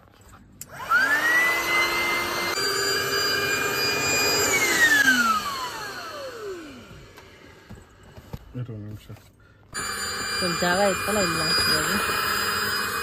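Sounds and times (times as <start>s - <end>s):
electric air pump whining: 0.6s - 8.4s, 9.7s - 13.0s.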